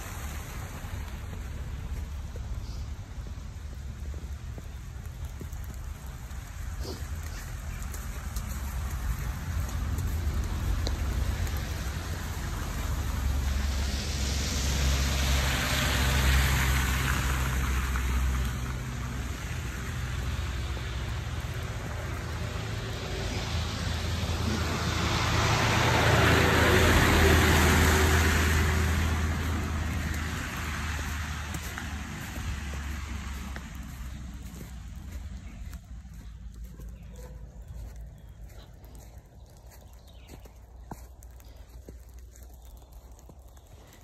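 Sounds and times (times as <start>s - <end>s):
vehicles driving past: 0.0s - 44.0s.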